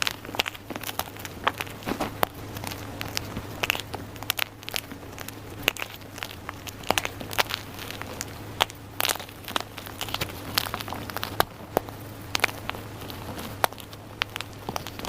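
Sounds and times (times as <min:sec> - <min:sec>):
chalk crunching and crumbling: 0:00.0 - 0:15.0
faint low hum: 0:00.0 - 0:15.0.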